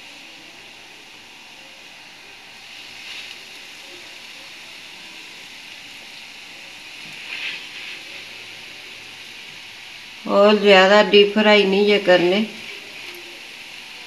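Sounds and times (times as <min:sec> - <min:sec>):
bread rolls frying in oil: 0:00.0 - 0:14.0.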